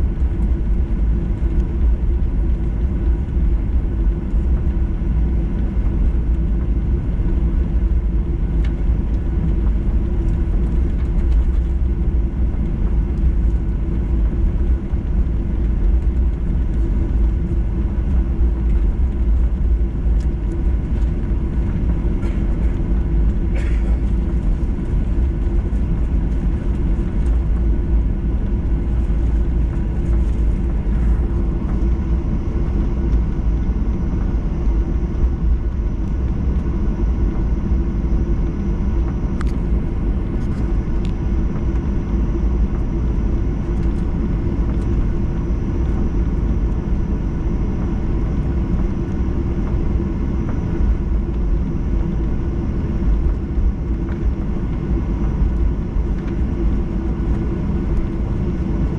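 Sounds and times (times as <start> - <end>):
airliner cabin rumble: 0.0 - 58.9
steady hum: 0.0 - 58.9.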